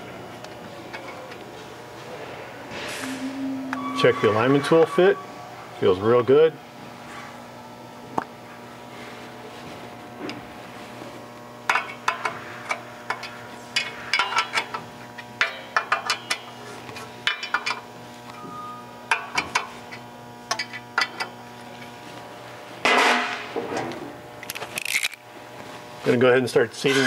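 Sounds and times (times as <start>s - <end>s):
steady low hum: 0.0s - 26.1s.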